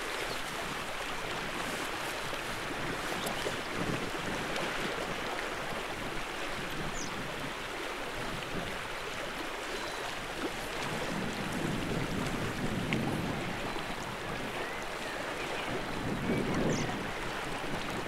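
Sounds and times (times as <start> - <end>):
creek rushing over gravel: 0.0 - 18.0
wind rumbling on microphone: 0.0 - 18.0.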